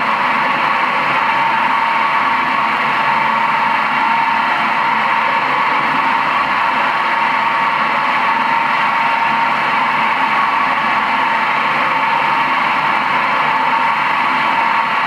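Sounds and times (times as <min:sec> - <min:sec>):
bowl cutter whirring: 0:00.0 - 0:15.0.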